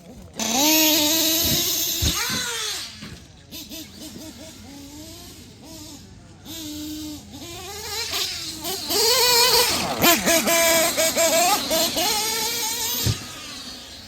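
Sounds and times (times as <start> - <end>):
rc car electric motor whining: 0.0 - 14.0.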